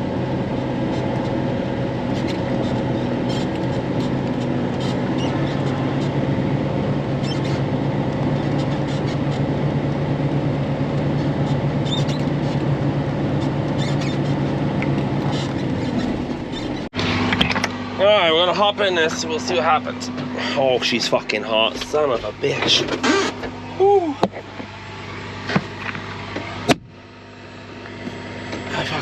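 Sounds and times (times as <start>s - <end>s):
road noise: 0.0s - 29.0s
vehicle engine hum: 0.0s - 29.0s.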